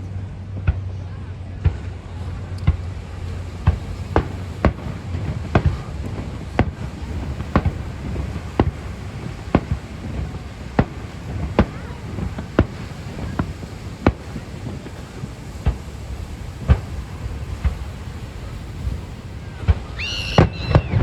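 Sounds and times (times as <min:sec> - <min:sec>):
fireworks booming: 0:00.0 - 0:21.0.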